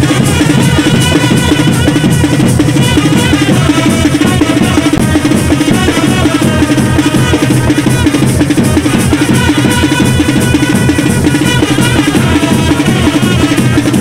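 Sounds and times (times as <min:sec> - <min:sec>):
fast festival drumming: 0:00.0 - 0:14.0.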